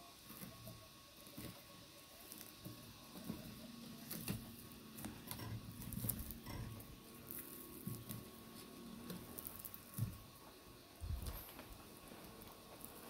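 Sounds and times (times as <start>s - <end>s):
burnt peel crackling and tearing: 0.1s - 13.0s.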